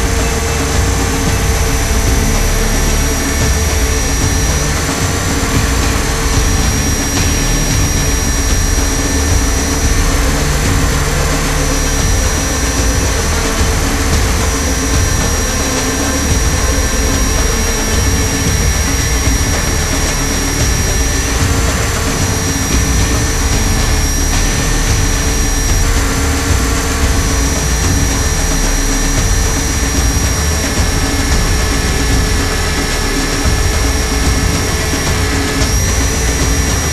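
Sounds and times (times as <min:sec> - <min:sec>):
motor high whine: 0:00.0 - 0:36.9
rotors rushing: 0:00.0 - 0:36.9.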